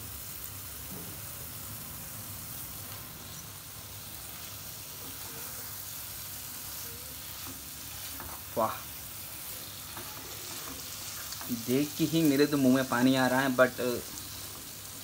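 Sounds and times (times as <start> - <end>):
gravy sizzling in a pan: 0.0 - 15.0.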